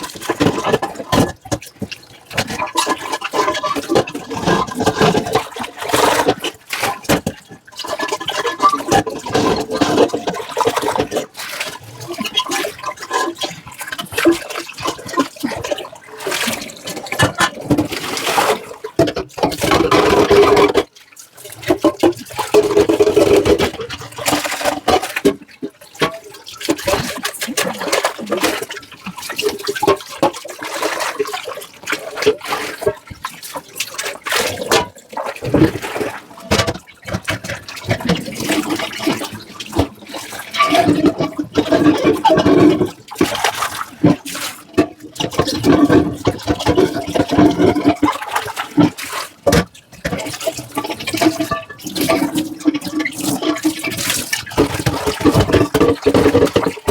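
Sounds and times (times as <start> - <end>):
tap water running into sink: 0.0 - 56.9.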